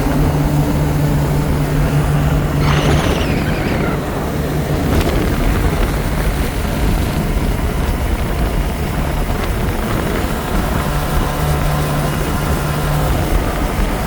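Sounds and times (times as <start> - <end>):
rushing water noise: 0.0 - 13.9
motorboat engine humming: 0.0 - 14.0.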